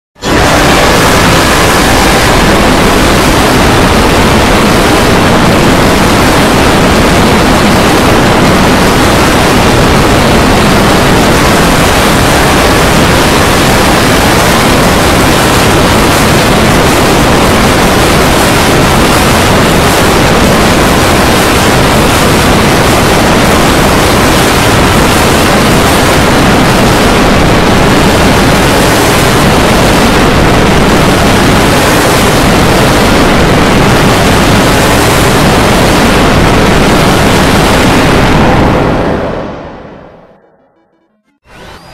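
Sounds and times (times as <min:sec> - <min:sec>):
wall of overlapping soundtracks: 0:00.2 - 0:41.9.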